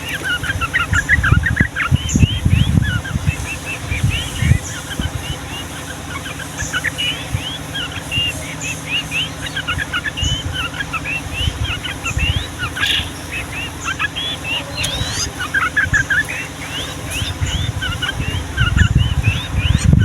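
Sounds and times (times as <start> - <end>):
birds singing whistled notes: 0.0 - 20.0.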